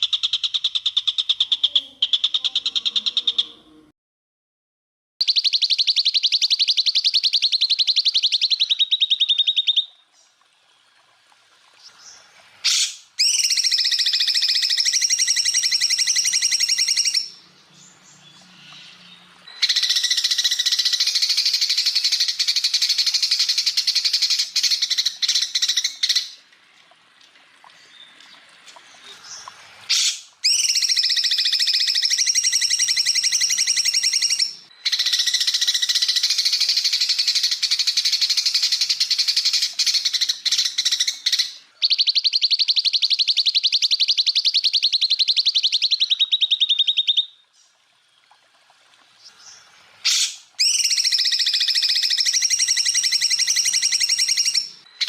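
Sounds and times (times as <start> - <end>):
bird rapid trilling song: 5.2 - 10.0, 11.9 - 26.4, 27.9 - 47.4, 49.2 - 55.0.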